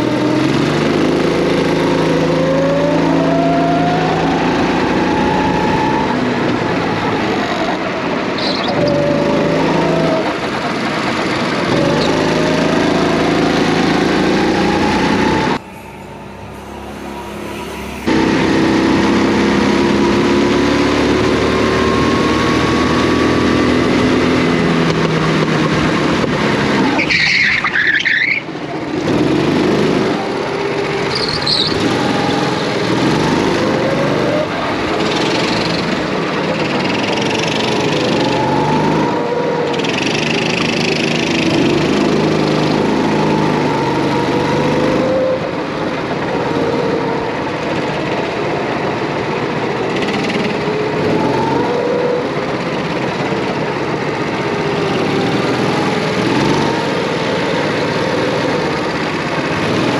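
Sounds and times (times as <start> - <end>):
go-kart engine revving: 0.0 - 59.9
other go-kart engines: 0.0 - 59.9
high squeal: 1.4 - 20.9, 26.8 - 28.5, 29.8 - 59.2.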